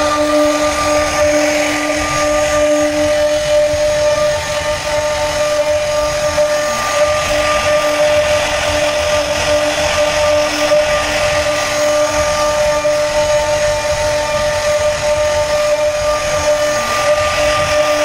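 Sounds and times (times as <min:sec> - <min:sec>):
power tool motor whine: 0:00.0 - 0:18.0.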